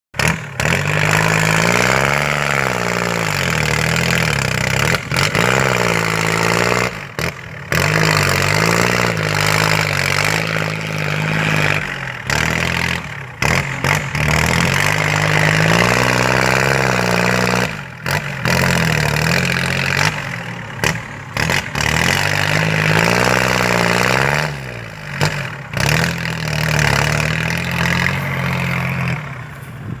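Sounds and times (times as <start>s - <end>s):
engine revving up and down: 0.2s - 30.0s.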